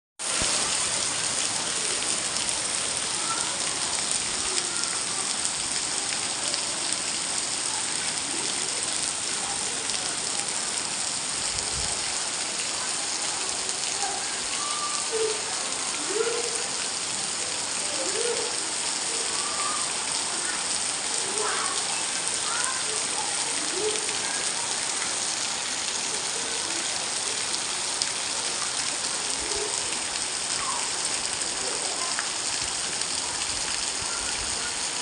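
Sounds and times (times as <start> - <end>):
steady rain: 0.2 - 35.0.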